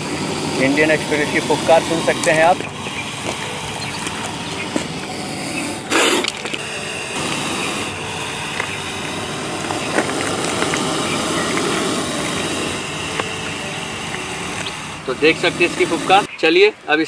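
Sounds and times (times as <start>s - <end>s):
cobra hissing: 0.0s - 16.5s
steady background noise: 0.0s - 17.0s.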